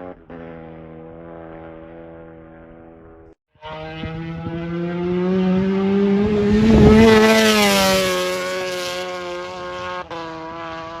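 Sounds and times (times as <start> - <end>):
racing motorcycle engine passing: 0.0 - 11.0.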